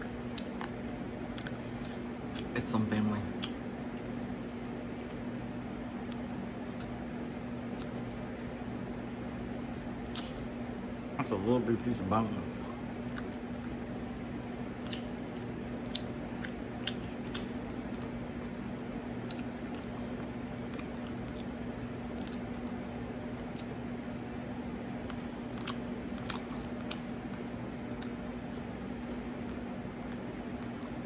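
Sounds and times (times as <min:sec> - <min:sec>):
person chewing with wet smacking: 0:00.0 - 0:10.8, 0:12.4 - 0:31.0
steady low hum: 0:00.0 - 0:31.0.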